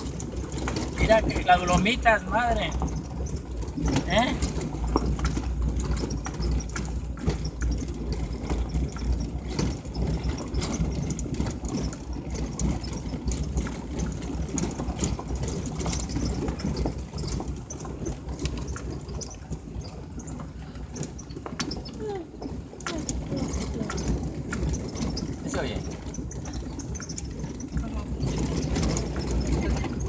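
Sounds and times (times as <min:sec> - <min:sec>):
knocks and rattles from bumps: 0:00.0 - 0:30.0
vehicle engine running: 0:00.0 - 0:30.0.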